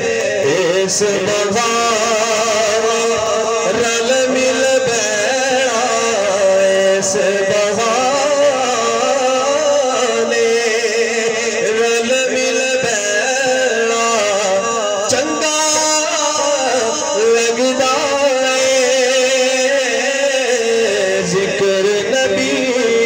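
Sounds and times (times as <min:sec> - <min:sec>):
man singing through loudspeaker: 0:00.0 - 0:23.0.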